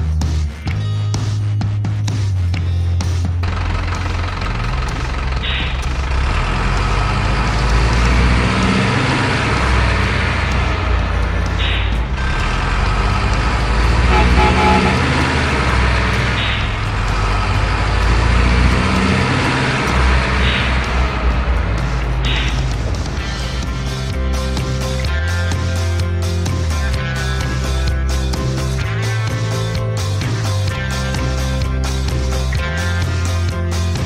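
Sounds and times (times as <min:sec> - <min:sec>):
diesel truck engine rumbling: 0:00.0 - 0:34.0.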